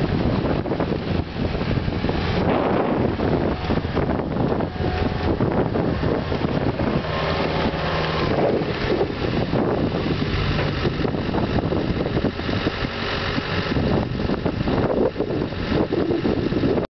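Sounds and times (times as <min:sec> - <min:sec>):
skid steer engine running: 0:00.0 - 0:16.8
wind buffeting microphone: 0:00.0 - 0:16.9.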